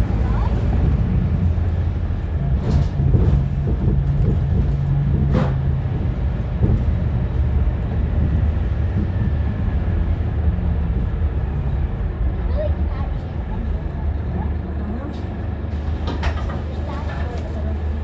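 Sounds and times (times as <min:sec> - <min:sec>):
bus diesel engine rumbling: 0:00.0 - 0:18.0.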